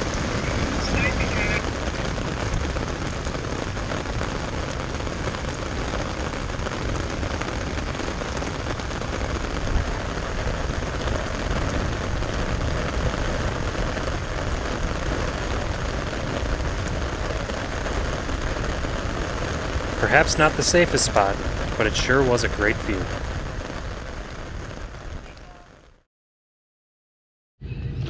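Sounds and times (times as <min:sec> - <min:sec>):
rain hissing: 0:00.0 - 0:25.9.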